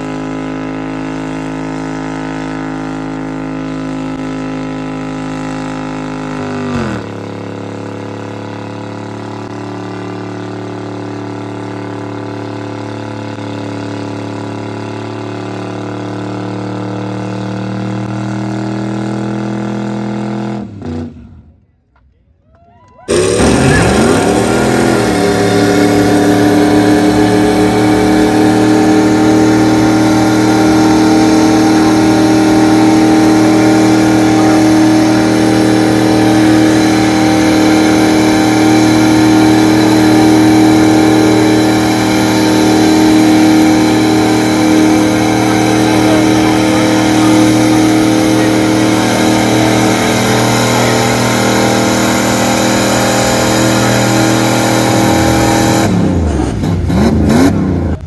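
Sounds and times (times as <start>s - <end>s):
car engine revving: 0.0s - 21.6s, 23.1s - 58.0s.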